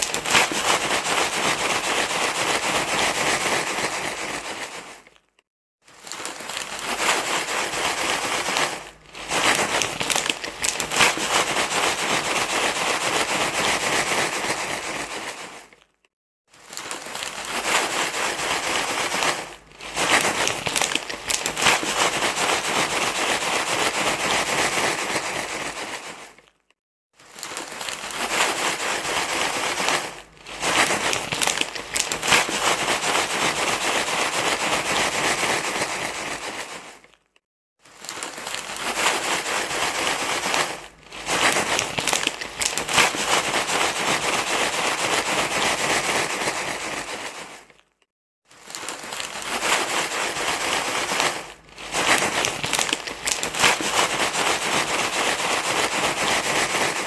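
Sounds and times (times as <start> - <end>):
crinkly material rustling: 0.0 - 57.0.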